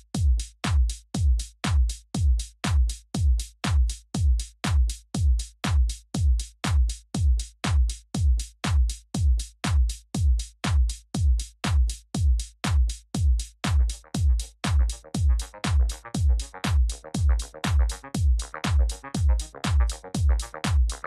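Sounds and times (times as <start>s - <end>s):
electronic music with kick drum: 0.0s - 21.0s.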